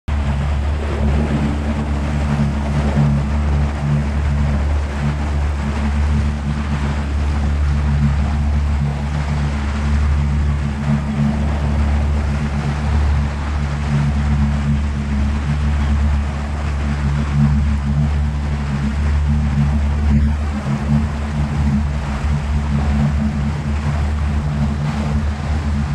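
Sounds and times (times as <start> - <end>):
boat motor humming: 0.0 - 25.9
water splashing along hull: 0.1 - 25.9.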